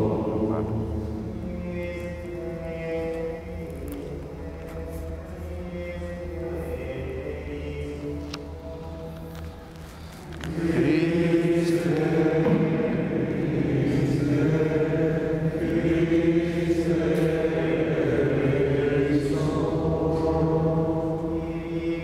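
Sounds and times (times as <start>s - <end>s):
men singing liturgical chant: 0.0s - 9.0s, 10.4s - 22.0s.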